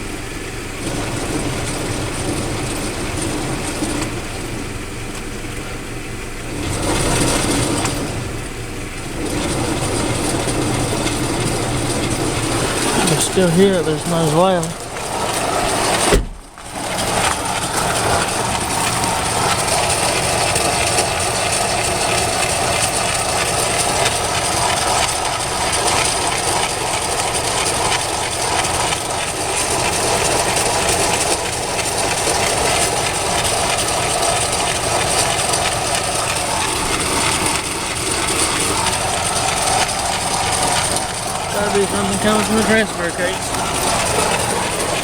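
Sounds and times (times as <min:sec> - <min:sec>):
engine and transfer case running: 0:00.0 - 0:45.0.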